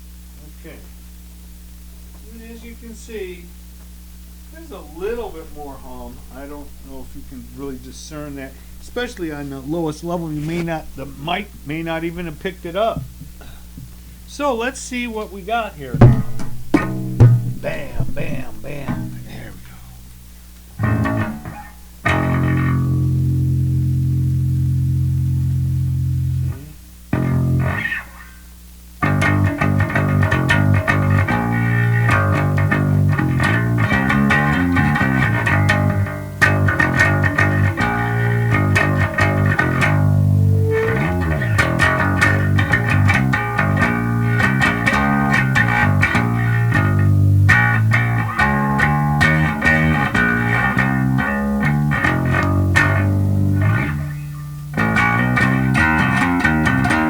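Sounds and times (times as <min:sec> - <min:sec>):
electric bass riffs: 0:03.5 - 0:14.6, 0:15.8 - 0:57.0.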